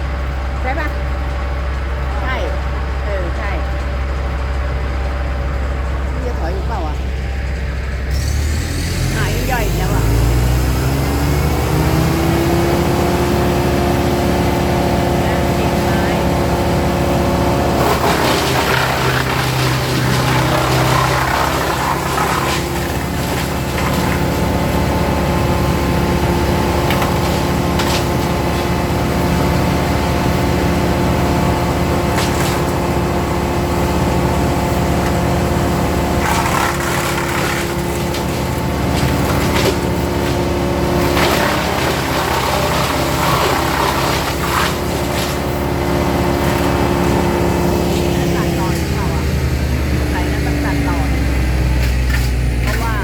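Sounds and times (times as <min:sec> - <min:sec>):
wood chipper engine running: 0:00.0 - 0:53.0
branches cracking in chipper: 0:08.2 - 0:53.0.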